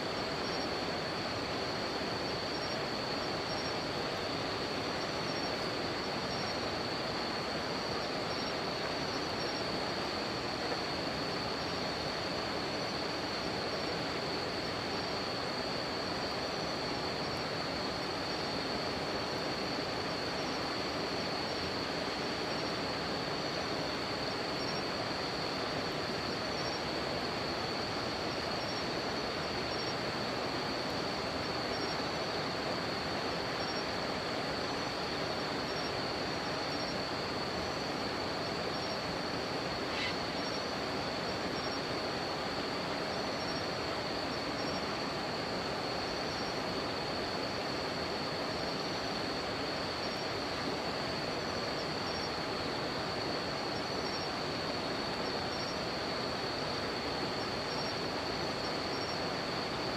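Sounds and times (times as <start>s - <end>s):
high insect chirping: 0.0s - 59.9s
insects trilling: 0.0s - 59.9s.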